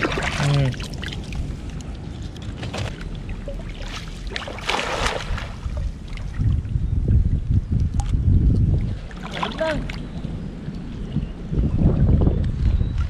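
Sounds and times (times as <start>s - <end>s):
water splashing and sloshing: 0.0s - 13.0s
wind buffeting microphone: 0.0s - 13.0s.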